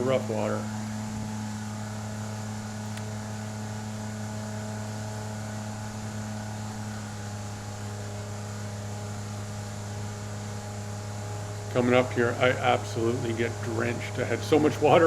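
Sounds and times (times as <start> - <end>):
jet boat motor running: 0.0 - 15.0.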